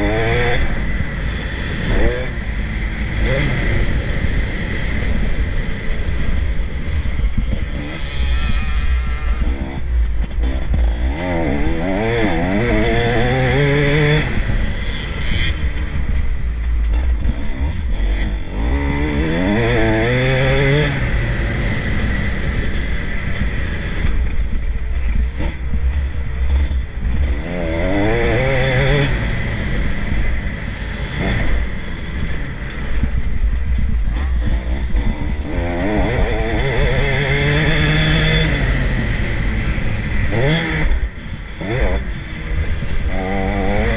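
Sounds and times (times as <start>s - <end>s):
constant low rumble: 0.0s - 43.9s
motocross engines revving: 0.0s - 43.9s.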